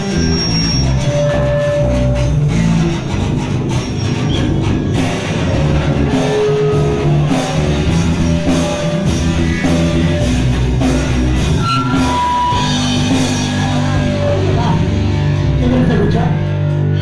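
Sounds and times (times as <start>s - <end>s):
bass: 0.0s - 17.0s
distorted electric guitar: 0.0s - 17.0s
drums: 0.0s - 17.0s.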